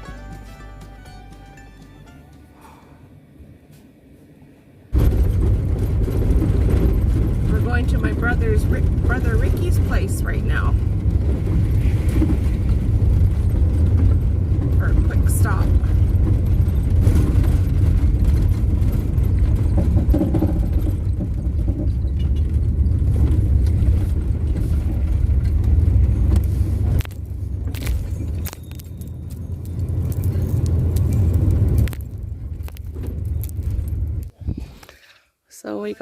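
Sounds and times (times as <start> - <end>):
van engine and road rumble: 0.0 - 35.1.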